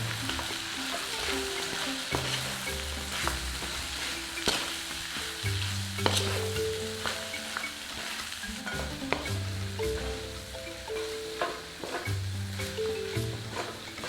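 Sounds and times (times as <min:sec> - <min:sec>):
chicken sizzling in a pan: 0:00.0 - 0:14.0
utensil clicking against pan: 0:00.0 - 0:14.0.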